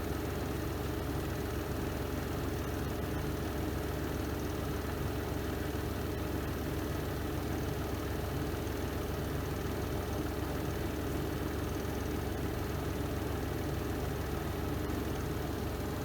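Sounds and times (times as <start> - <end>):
washing machine spin hum: 0.0 - 16.0.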